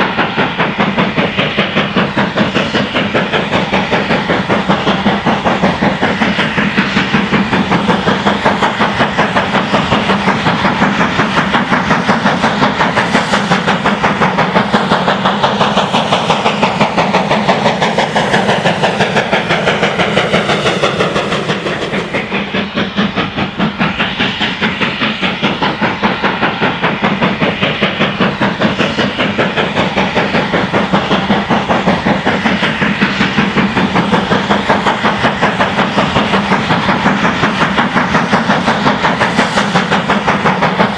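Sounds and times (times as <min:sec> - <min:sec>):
steam locomotive exhaust beats: 0:00.0 - 0:40.9.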